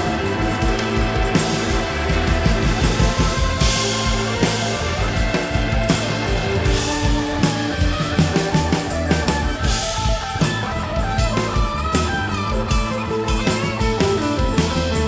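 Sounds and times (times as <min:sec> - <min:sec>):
bass guitar: 0:00.0 - 0:15.0
drum kit steady beat: 0:00.0 - 0:15.0
electric guitar: 0:00.0 - 0:15.0
keyboards: 0:00.0 - 0:15.0.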